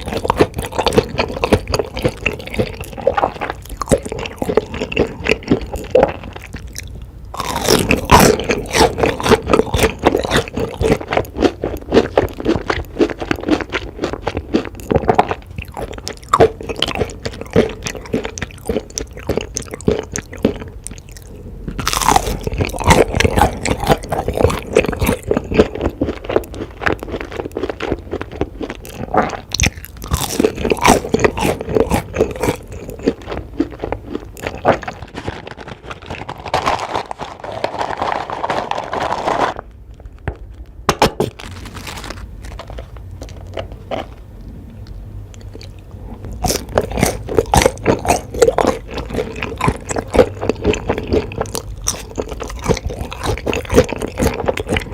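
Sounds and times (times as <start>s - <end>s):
crunchy chewing of fried food: 0.0s - 54.9s.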